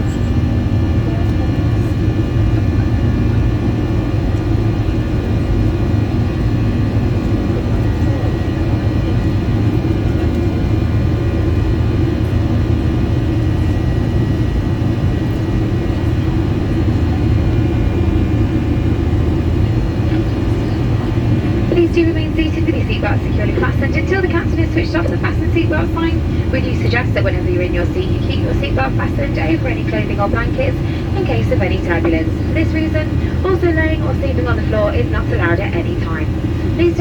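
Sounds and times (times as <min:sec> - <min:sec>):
airplane cabin rumble: 0:00.0 - 0:37.0
faint steady whining tones: 0:00.0 - 0:37.0.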